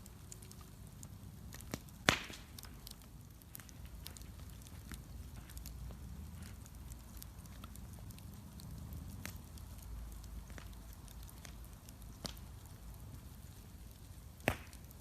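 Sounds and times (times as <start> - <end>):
bonfire low rumble: 0.0 - 15.0
fire crackles and pops: 0.0 - 15.0.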